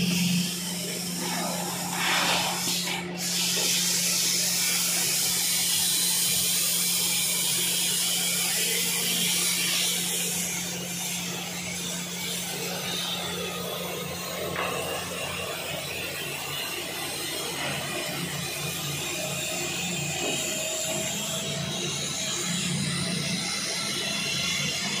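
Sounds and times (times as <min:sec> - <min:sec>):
plasma cutter hissing: 0:00.0 - 0:25.0.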